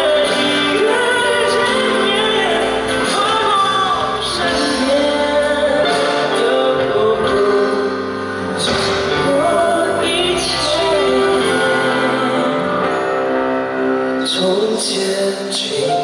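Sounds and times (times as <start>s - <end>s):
live pop song with singing: 0.0s - 16.0s.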